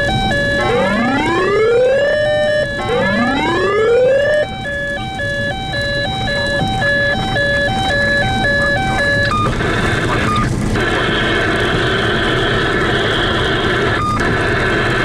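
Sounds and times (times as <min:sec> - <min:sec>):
emergency vehicle siren: 0:00.0 - 0:15.0
road and engine noise: 0:00.0 - 0:15.0.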